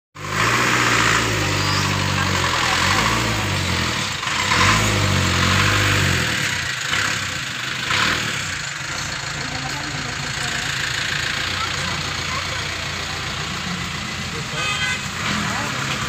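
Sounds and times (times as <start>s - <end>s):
tyre and road noise: 0.2s - 16.0s.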